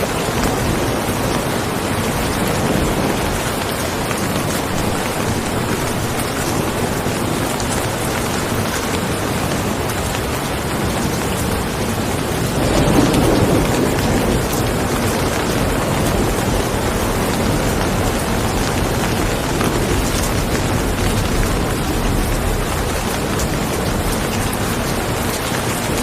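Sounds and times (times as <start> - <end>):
steady rain: 0.0 - 26.0
thunder rumble: 0.0 - 26.0.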